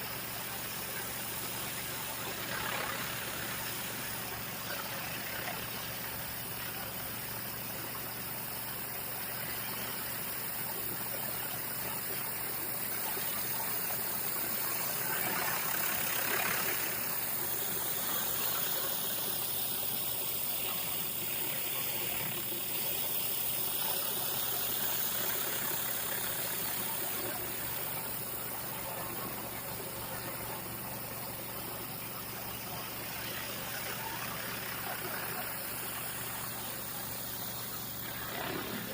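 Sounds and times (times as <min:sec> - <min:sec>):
pressure washer engine running: 0:00.0 - 0:38.9
water spray hissing on concrete: 0:00.0 - 0:38.9.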